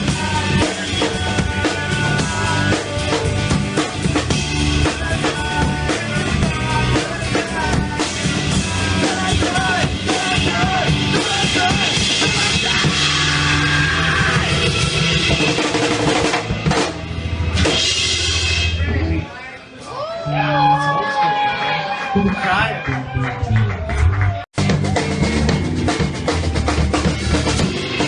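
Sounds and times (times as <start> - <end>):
rock music with drums: 0.0 - 19.2, 23.9 - 28.0.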